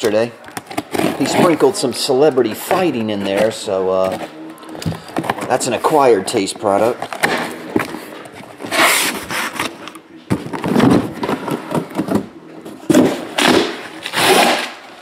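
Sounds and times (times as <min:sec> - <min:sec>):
cardboard and foil boxes rustling: 0:00.0 - 0:15.0.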